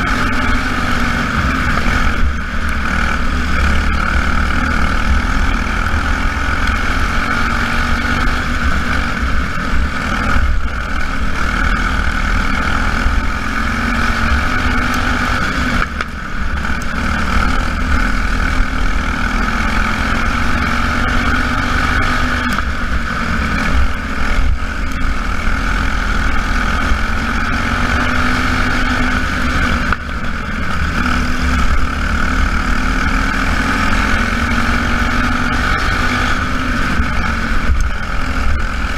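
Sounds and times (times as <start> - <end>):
race car engines: 0.0 - 38.9.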